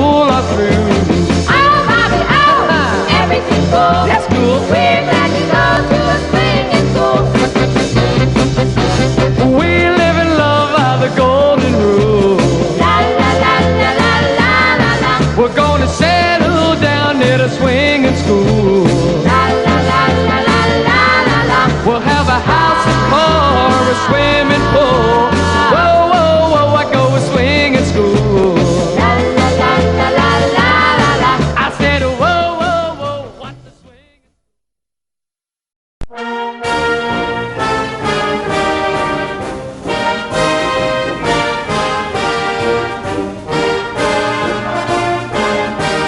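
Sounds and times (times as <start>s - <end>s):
instrumental rock and roll music: 0.0s - 34.0s, 36.0s - 46.0s.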